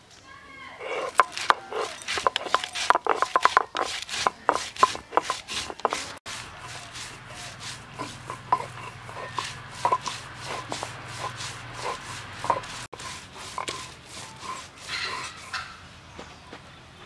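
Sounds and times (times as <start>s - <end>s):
stone roller knocks: 0.8s - 15.7s
stone roller grinding on stone slab: 0.8s - 15.8s.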